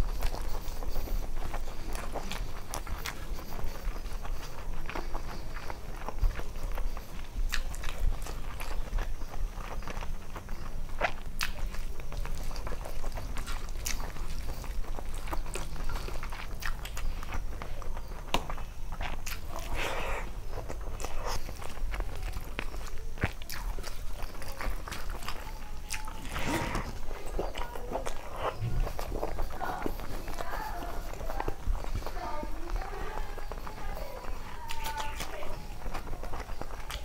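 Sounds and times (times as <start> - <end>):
wet chewing and mouth smacks: 0.0 - 37.0.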